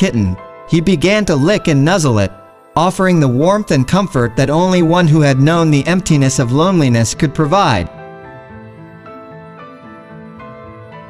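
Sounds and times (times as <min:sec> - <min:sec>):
soft slow background music: 0:00.0 - 0:11.0.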